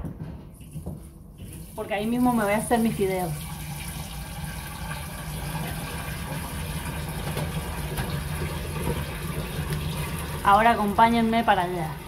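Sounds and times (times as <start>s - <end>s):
tap water running into sink: 0.6s - 12.0s.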